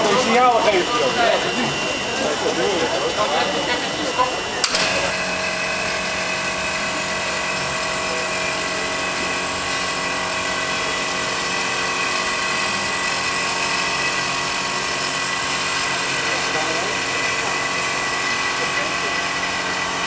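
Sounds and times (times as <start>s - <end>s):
high whine: 0.0s - 20.0s
steam locomotive hissing: 0.0s - 20.0s.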